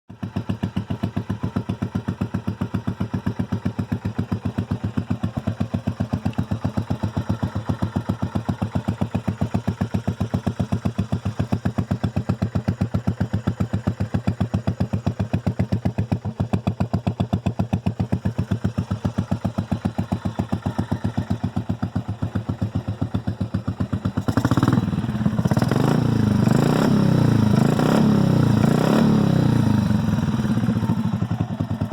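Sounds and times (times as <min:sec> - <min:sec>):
motorcycle engine idling and revving: 0:00.1 - 0:31.9.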